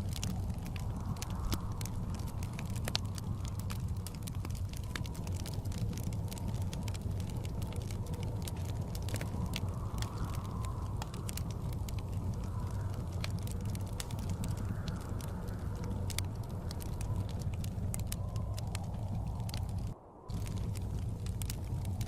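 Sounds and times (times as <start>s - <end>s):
blizzard wind rumble: 0.0s - 22.0s
wood fire crackling and popping: 0.0s - 22.0s.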